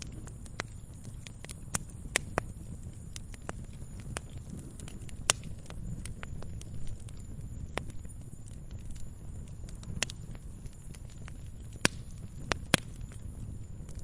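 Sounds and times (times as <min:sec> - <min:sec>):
low rumble of burning fire: 0:00.0 - 0:14.0
wood fire crackling: 0:00.0 - 0:14.0.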